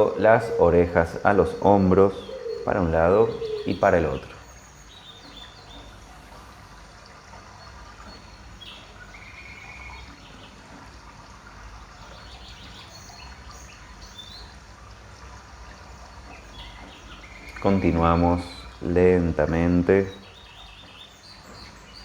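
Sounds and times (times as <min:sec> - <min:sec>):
faint birds chirping: 0:00.0 - 0:22.0
low background hum: 0:00.0 - 0:22.0.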